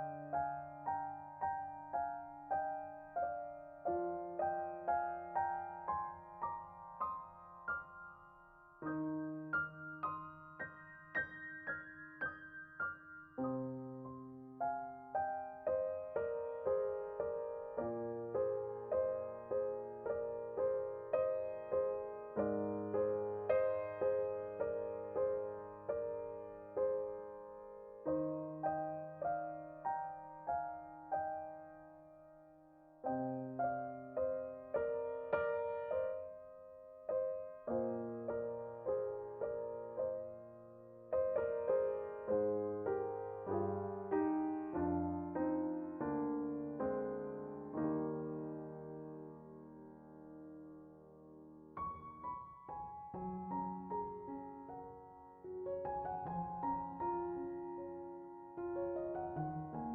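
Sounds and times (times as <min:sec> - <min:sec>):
gentle solo piano piece: 0:00.0 - 0:59.9.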